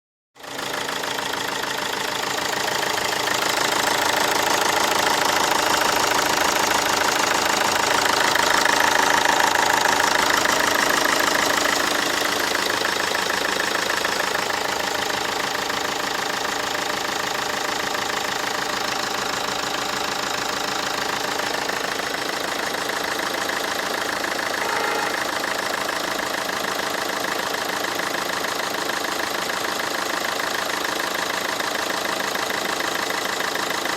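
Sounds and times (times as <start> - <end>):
diesel engine idling: 0.4 - 33.9.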